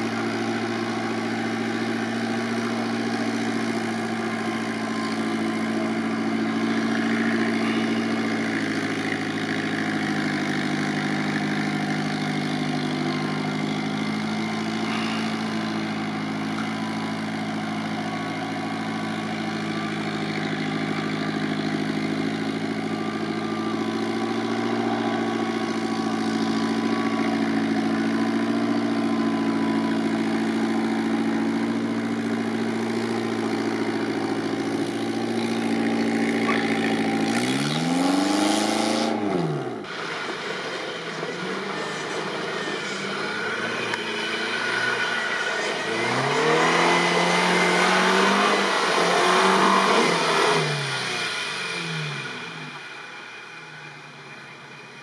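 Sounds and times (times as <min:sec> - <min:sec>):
car engine revving: 0:00.0 - 0:54.8.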